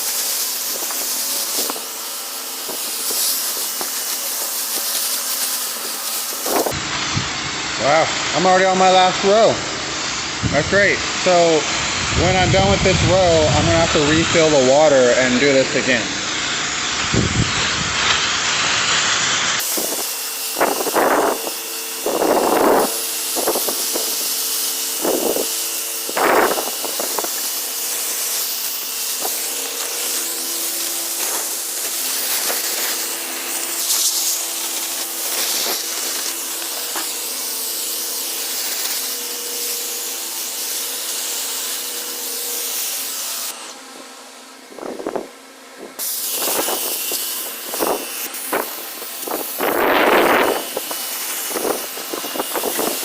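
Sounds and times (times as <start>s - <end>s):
water sprayer hissing: 0.0s - 6.9s, 12.2s - 43.6s, 46.0s - 53.0s.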